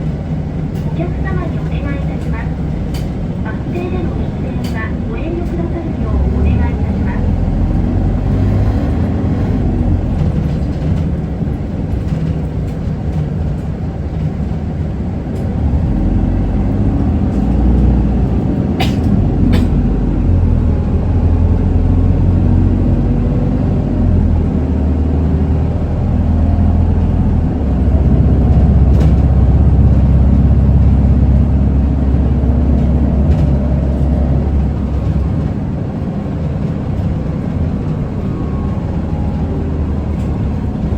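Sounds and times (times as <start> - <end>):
bus diesel engine droning: 0.0 - 40.9
road noise: 0.0 - 40.9.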